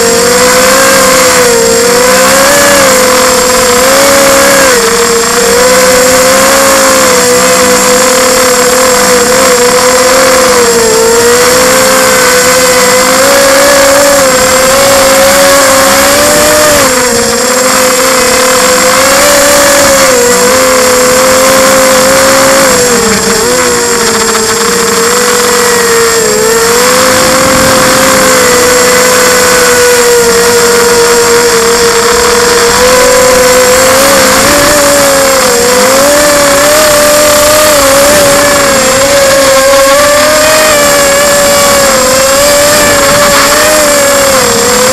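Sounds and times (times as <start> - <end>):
drone propellers humming: 0.0 - 44.9.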